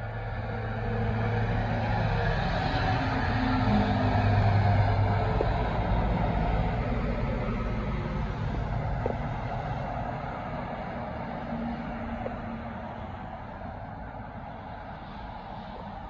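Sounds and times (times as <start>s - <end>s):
truck engine and tyre noise: 0.0s - 16.0s.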